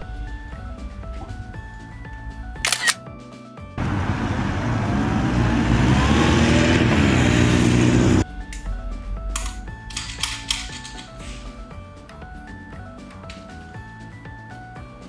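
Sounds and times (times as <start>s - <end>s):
sharp burst: 0.0s - 3.0s, 3.8s - 14.1s
light background music: 0.0s - 15.0s.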